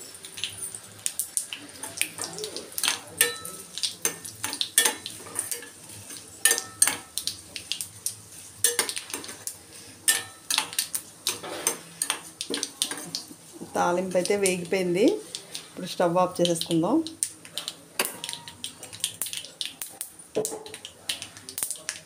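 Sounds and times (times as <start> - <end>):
oil sizzling: 0.0 - 22.0.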